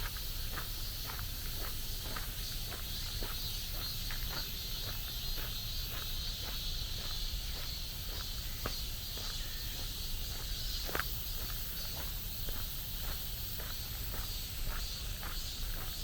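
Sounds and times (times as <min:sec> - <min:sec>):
footsteps on forest path: 0:00.0 - 0:16.0
high-pitched hiss: 0:00.0 - 0:16.0.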